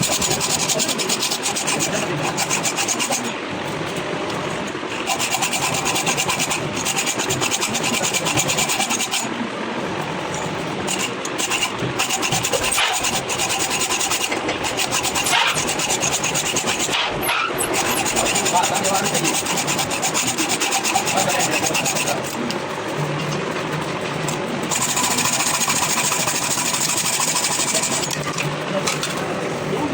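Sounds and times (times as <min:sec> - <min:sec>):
rasping crackling metalworking: 0:00.0 - 0:29.9.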